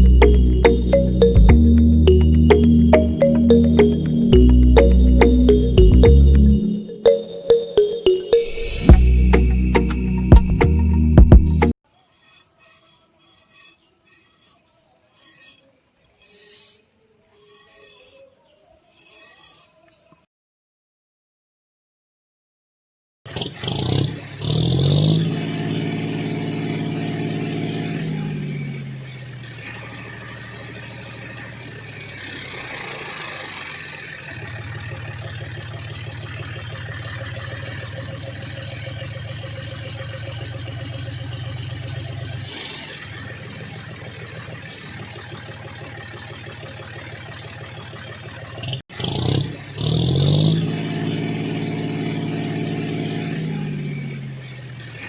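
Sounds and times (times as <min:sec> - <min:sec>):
tractor engine revving and running: 0:00.0 - 0:06.7, 0:08.8 - 0:18.2, 0:23.3 - 0:55.0.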